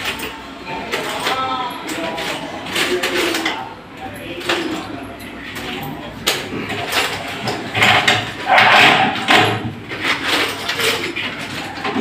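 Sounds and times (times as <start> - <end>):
glass panels being handled: 0.0 - 12.0
metal frames clattering and scraping: 0.0 - 12.0.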